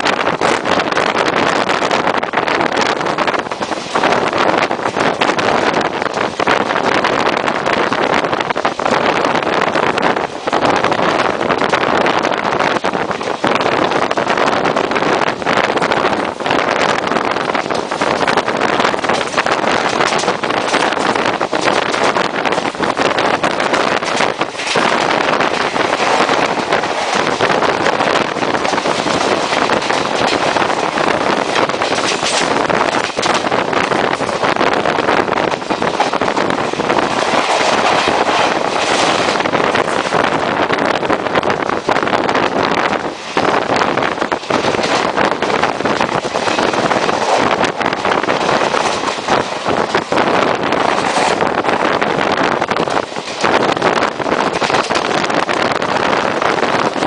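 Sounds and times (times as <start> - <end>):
train wheels on rails: 0.0 - 57.0
wind buffeting microphone: 0.0 - 57.0.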